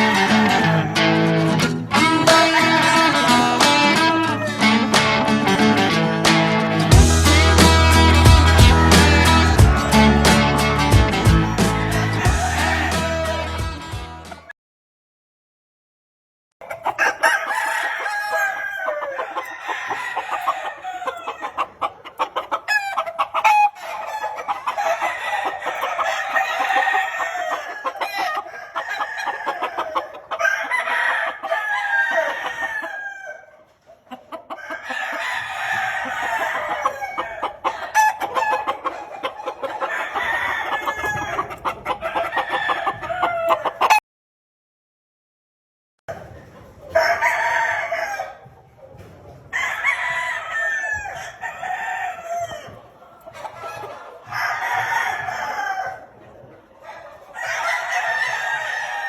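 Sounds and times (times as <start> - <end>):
chickens clucking: 0.0 - 14.5, 16.6 - 44.0, 46.1 - 59.0
roosters crowing: 0.0 - 14.5, 16.6 - 44.0, 46.1 - 48.8, 49.5 - 59.0.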